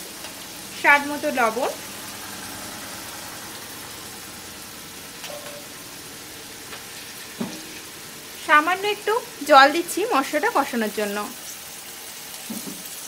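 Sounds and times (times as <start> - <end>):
masala frying in oil: 0.0 - 13.0.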